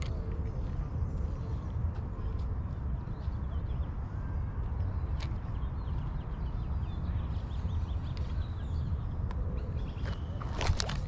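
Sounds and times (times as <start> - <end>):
low rumble on microphone: 0.0 - 11.0.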